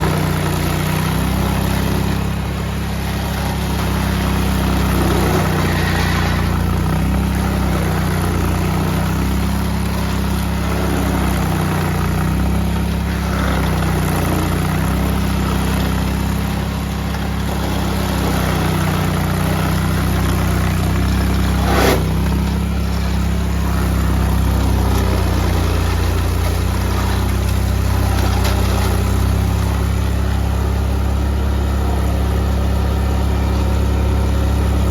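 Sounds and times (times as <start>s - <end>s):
heavy machine engine running: 0.0s - 34.9s.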